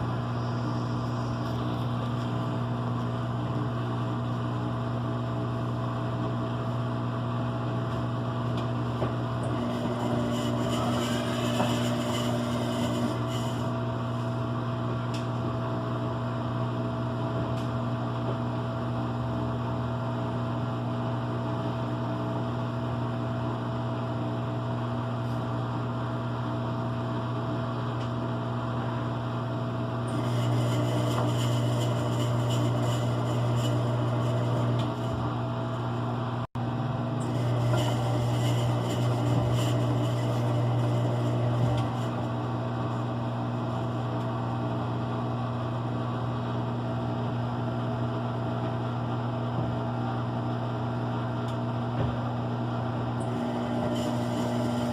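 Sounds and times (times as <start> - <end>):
washing machine motor hum: 0.0 - 54.9.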